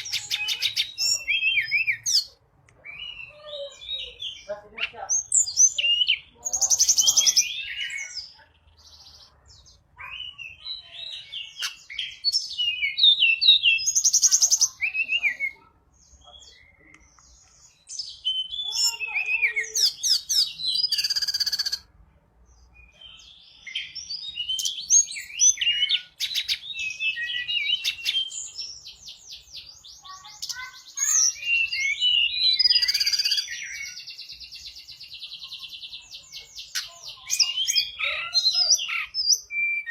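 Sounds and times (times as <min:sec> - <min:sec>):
songbird chirping and warbling: 0:00.0 - 0:39.9.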